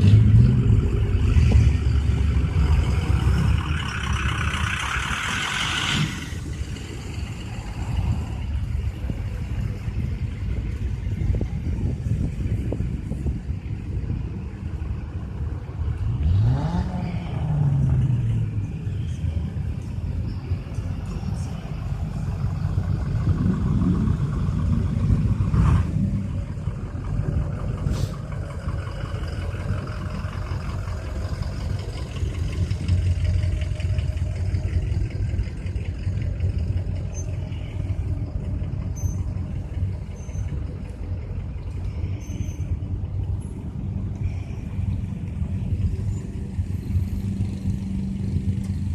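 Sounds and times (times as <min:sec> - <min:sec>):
truck engine revving: 0:00.0 - 0:13.7, 0:14.4 - 0:48.9.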